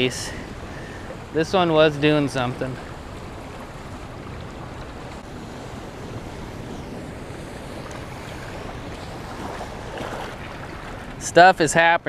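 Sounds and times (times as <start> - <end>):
wind buffeting microphone: 0.0 - 11.4
turbulent water rushing: 0.0 - 12.0.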